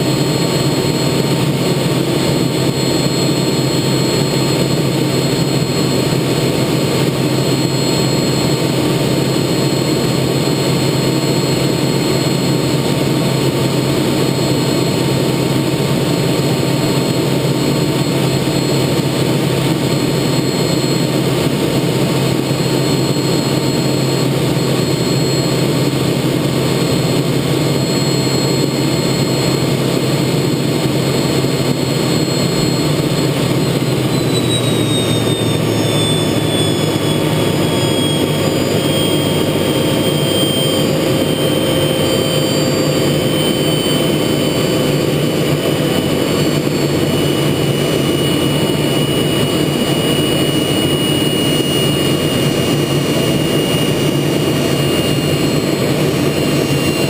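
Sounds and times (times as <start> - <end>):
high whine: 0.0 - 57.0
jet engine rumble in cockpit: 0.0 - 57.0.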